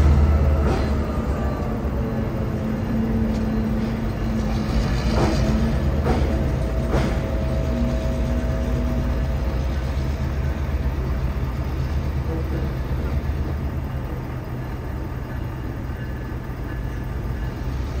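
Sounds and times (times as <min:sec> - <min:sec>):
locomotive rumbling: 0:00.0 - 0:18.0.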